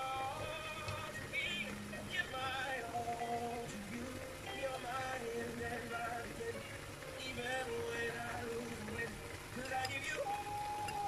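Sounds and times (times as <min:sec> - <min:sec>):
pop song with singing: 0:00.0 - 0:11.0.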